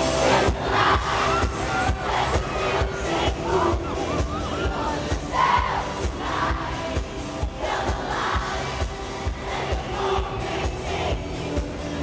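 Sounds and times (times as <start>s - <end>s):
band with steady drum beat: 0.0s - 12.0s
crowd cheering: 0.0s - 12.0s
crowd singing along: 0.0s - 12.0s.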